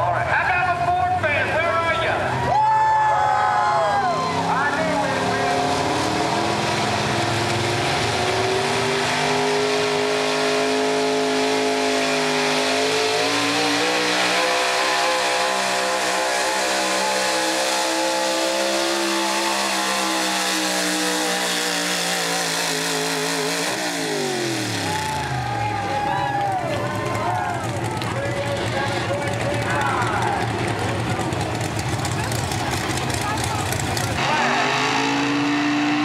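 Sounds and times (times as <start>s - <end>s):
truck engine at high revs: 3.0s - 36.0s.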